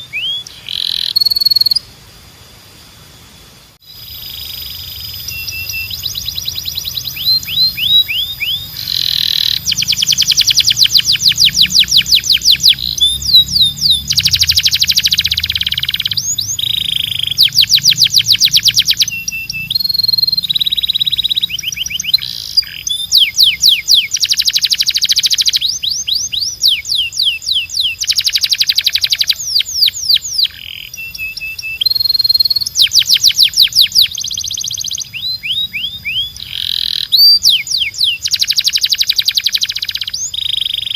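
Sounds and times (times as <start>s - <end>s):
canary singing trills: 0.0s - 2.0s, 3.8s - 40.9s.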